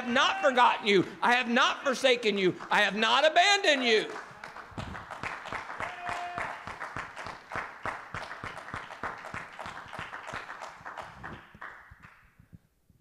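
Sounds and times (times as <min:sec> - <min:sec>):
congregation clapping: 0:00.0 - 0:12.4.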